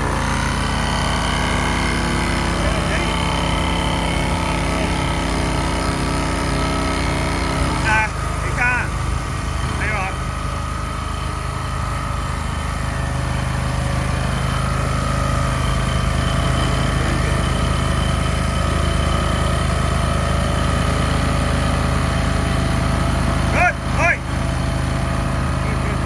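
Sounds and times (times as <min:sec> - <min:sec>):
faint high whine: 0:00.0 - 0:26.0
small engine running: 0:00.0 - 0:26.0.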